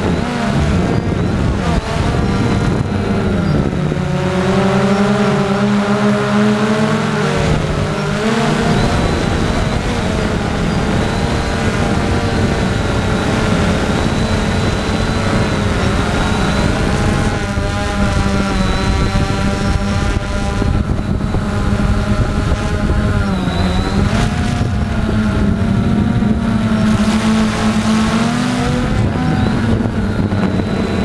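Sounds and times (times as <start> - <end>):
drone propellers buzzing: 0.0 - 31.0
steady rush of noise: 0.0 - 31.0.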